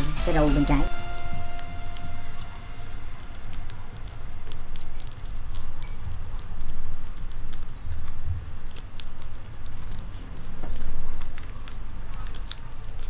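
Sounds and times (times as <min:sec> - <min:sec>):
paper crinkling while folded: 0:00.0 - 0:13.0.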